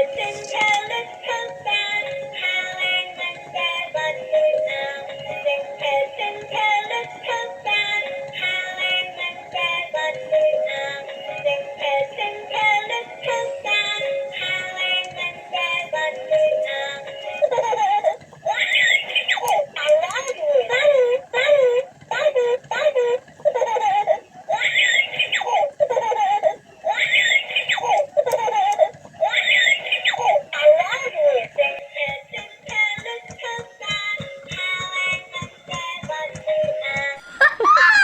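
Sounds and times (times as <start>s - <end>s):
synthetic singing voice music: 0.0s - 37.3s.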